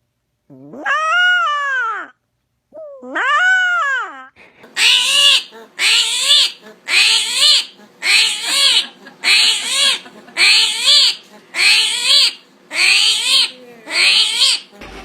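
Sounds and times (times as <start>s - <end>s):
animal calling harshly: 0.7s - 2.2s, 2.8s - 14.8s.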